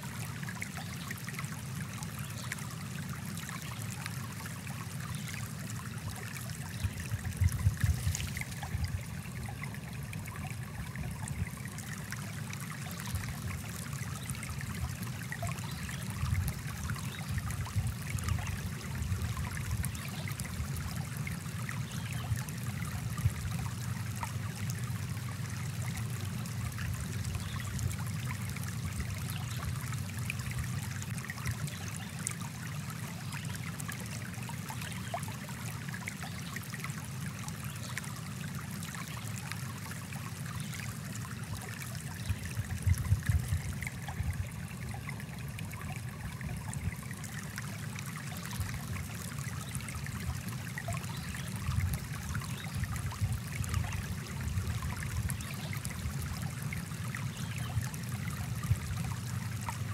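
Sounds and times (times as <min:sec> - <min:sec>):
small stream flowing: 0:00.0 - 0:59.9.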